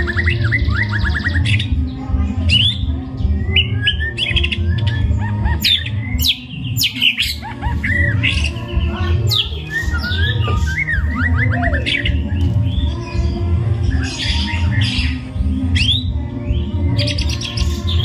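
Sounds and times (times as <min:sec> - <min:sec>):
songbird singing whistles and chirps: 0:00.0 - 0:18.0.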